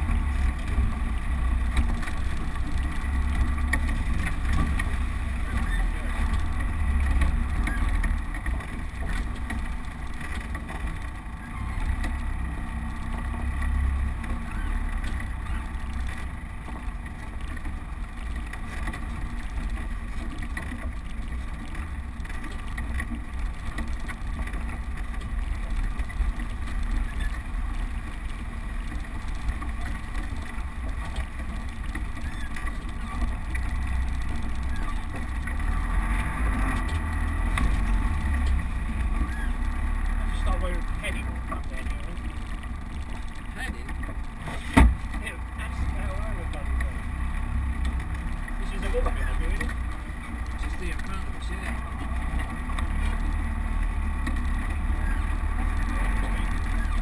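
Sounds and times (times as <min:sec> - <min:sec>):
truck engine rumbling: 0:00.0 - 0:57.0.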